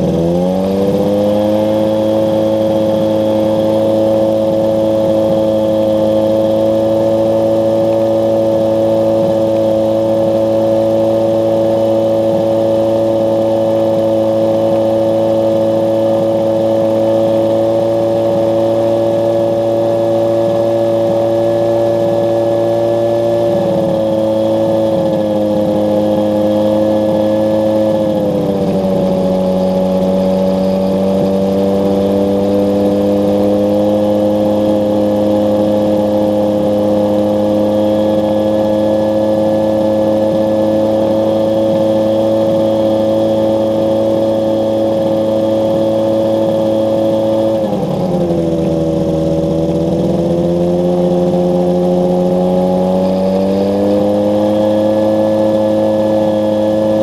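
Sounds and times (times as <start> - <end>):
ultralight engine and propeller running: 0.0 - 57.0.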